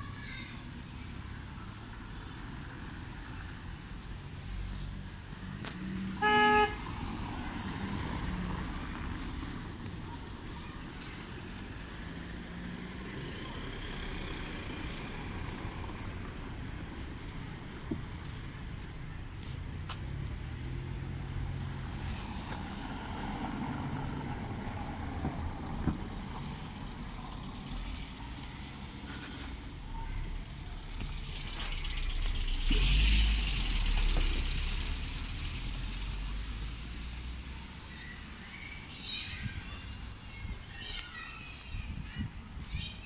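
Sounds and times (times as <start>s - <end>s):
street traffic rumble: 0.0s - 43.0s
motor vehicle passing: 1.1s - 40.8s.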